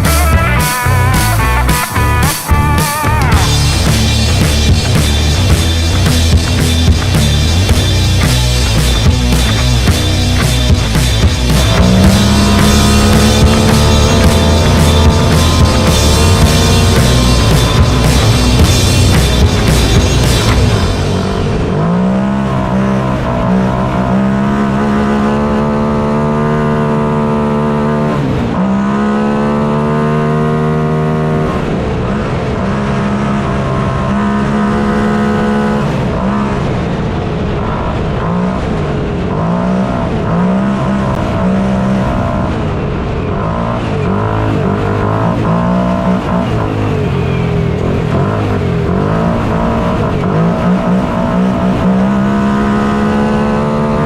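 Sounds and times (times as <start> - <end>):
race car engine running hard: 0.0 - 54.0.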